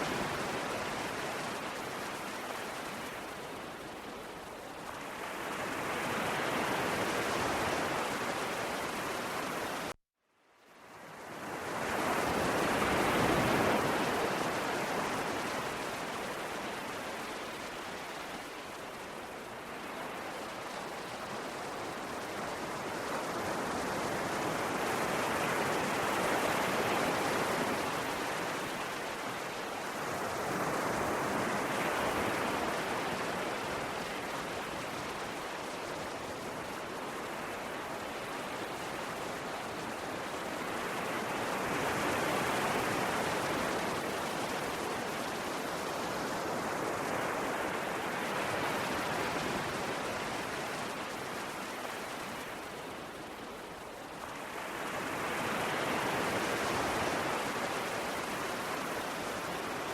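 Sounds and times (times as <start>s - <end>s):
sea waves washing in: 0.0s - 10.0s, 10.9s - 59.9s.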